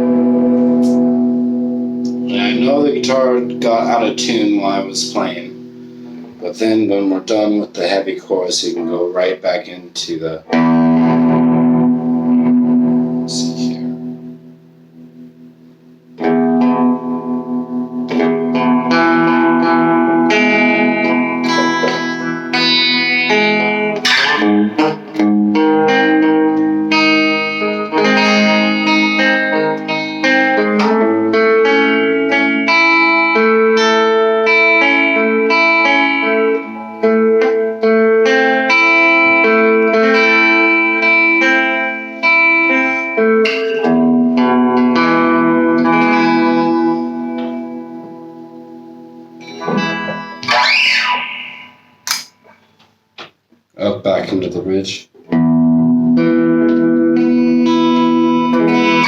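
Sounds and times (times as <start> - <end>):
electric guitar chords: 0.0 - 53.6, 55.2 - 59.0.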